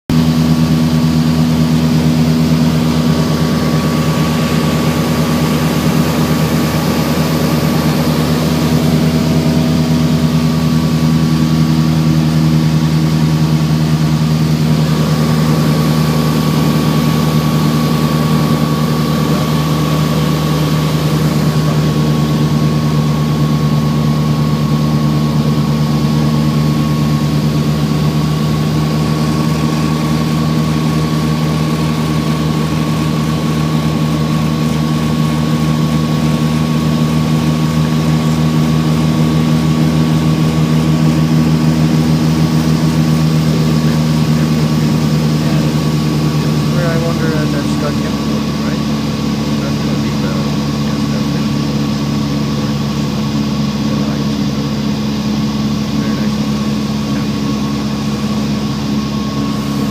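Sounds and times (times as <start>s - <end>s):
aircraft engine cabin drone: 0.1s - 59.9s.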